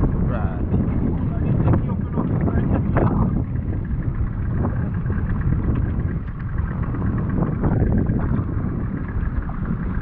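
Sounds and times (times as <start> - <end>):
water lapping against hull: 0.0 - 10.0
wind rumble on microphone: 0.0 - 10.0.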